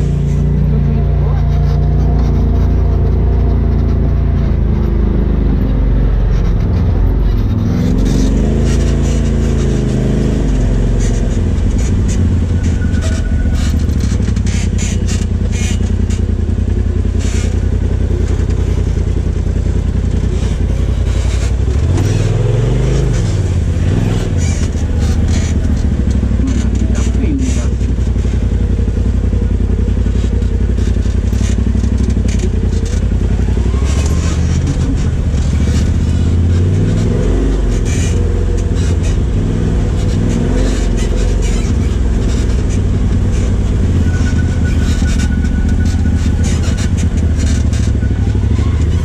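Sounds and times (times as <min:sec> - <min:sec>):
engine revving up and down: 0:00.0 - 0:49.0
vehicle knocking and rattling: 0:00.0 - 0:49.0.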